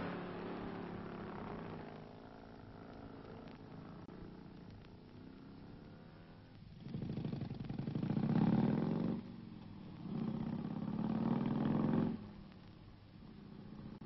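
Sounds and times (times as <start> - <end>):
vehicle engine revving: 0.0 - 12.5.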